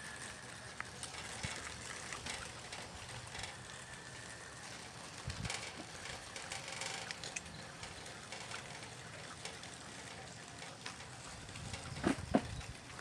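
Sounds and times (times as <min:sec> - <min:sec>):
low rustle with small clicks: 0:00.0 - 0:13.0.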